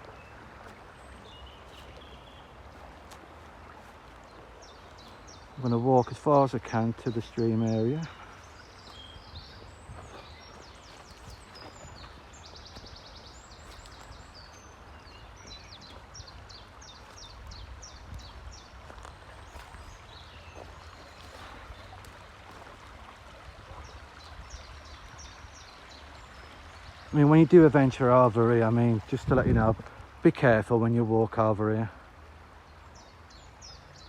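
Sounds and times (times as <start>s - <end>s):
small birds chirping: 0.0s - 31.8s
flowing stream: 0.0s - 34.0s.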